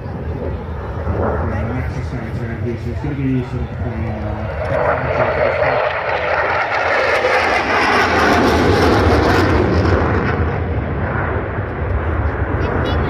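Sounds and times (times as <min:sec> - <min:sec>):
fighter jet passing by: 0:00.0 - 0:13.0.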